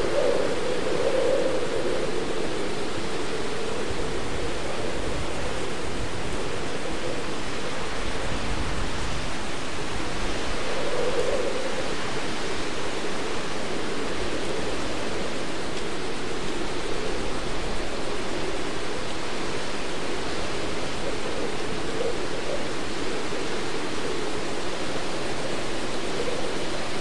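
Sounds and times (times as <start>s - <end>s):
hurricane wind and rain: 0.0s - 27.0s
low hollow wind tone: 0.0s - 27.0s.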